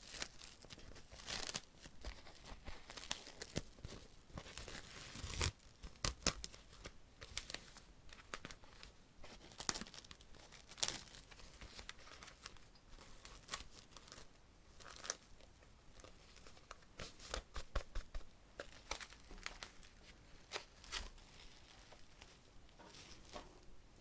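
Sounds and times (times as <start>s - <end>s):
packaging crinkling and tearing: 0.0s - 18.0s, 18.6s - 22.4s.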